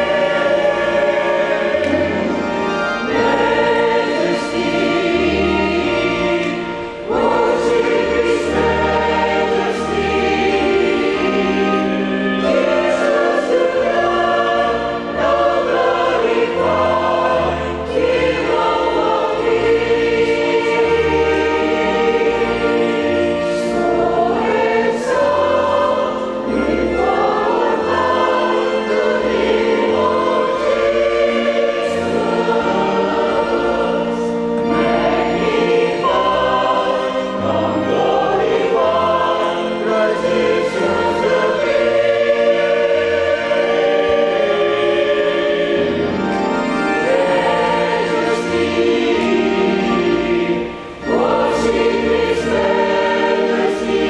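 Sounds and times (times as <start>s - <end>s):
church choir singing: 0.0s - 54.0s
organ: 0.0s - 54.0s.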